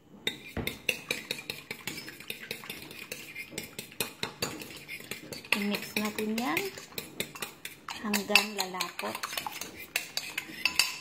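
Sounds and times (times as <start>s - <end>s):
fork clinking against ceramic bowl: 0.3s - 11.0s.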